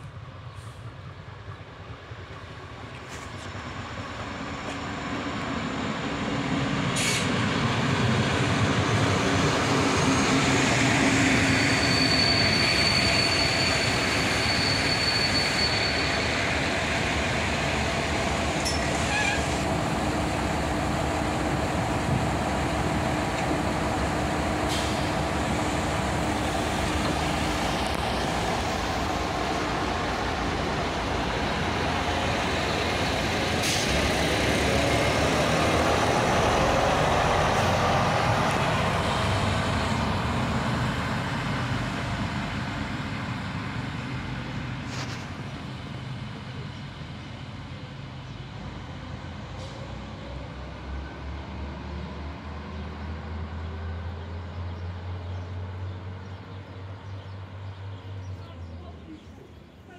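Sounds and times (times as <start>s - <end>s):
diesel railcar engines passing: 0.0s - 59.9s.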